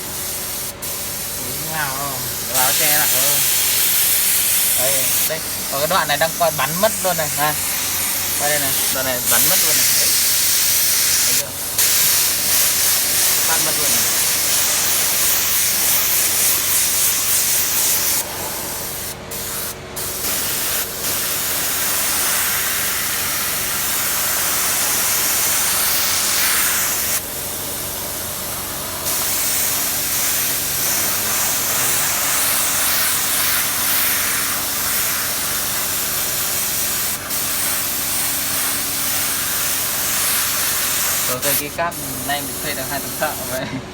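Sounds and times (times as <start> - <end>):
spray gun hissing: 0.0 - 43.8.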